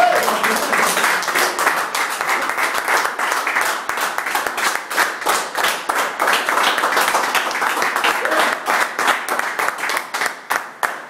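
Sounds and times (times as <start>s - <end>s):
people clapping fast: 0.0s - 11.0s.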